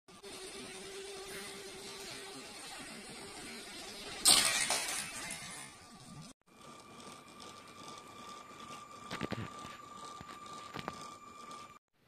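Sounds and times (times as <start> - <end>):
toy train motor whining: 0.1 - 11.8.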